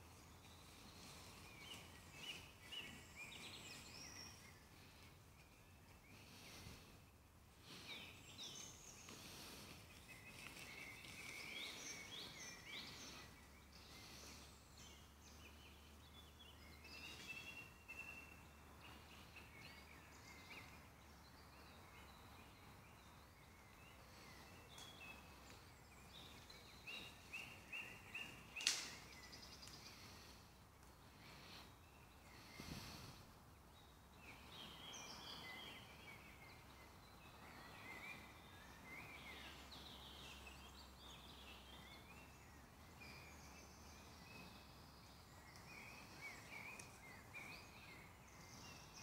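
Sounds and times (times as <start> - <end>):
birds chirping and trilling: 0.0 - 49.0.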